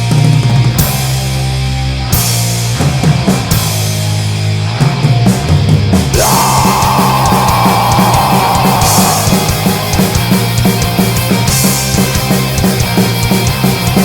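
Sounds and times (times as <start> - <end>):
heavy rock music: 0.0 - 14.0.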